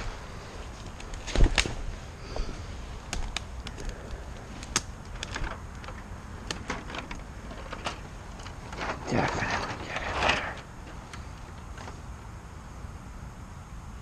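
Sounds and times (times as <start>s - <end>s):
twigs snapping and crackling: 0.0s - 12.0s.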